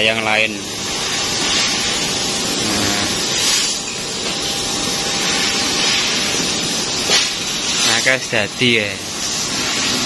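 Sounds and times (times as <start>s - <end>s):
laser cutting machine hissing: 0.0s - 10.0s.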